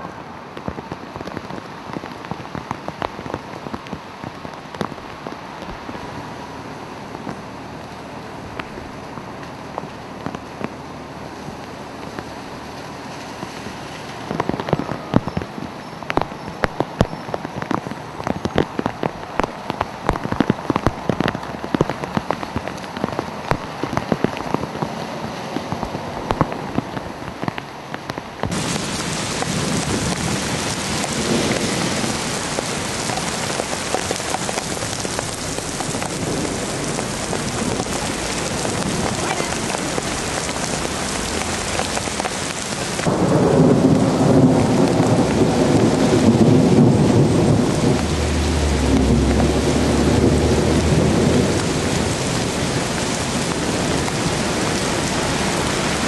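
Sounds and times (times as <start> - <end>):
rain hiss: 0.0 - 56.0
raindrops tapping on pavement: 0.0 - 56.0.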